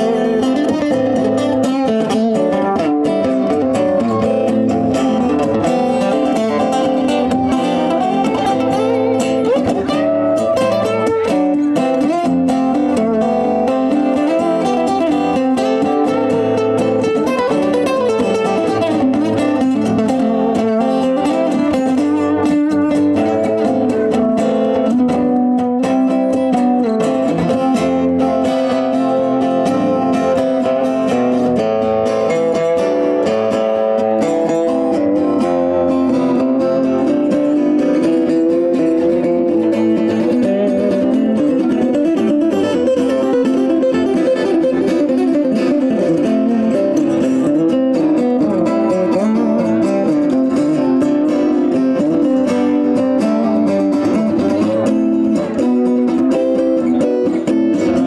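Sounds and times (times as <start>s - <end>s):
two acoustic guitars playing: 0.0s - 58.0s.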